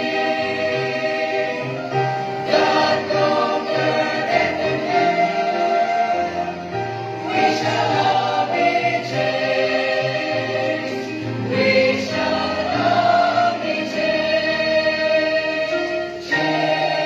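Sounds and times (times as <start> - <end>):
youth choir singing: 0.0 - 17.0.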